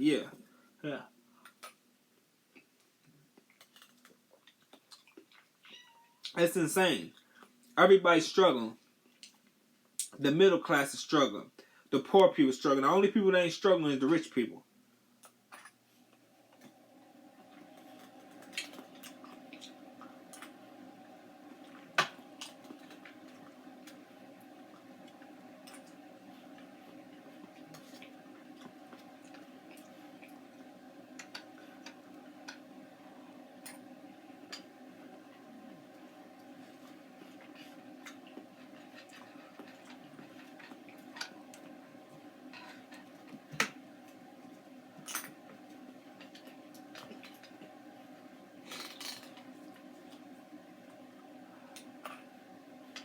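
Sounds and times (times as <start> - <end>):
low room hum: 0.0 - 53.0.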